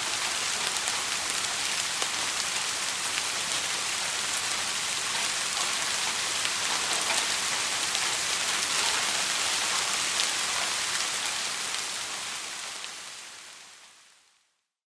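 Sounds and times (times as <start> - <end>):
rain hissing: 0.0 - 14.5.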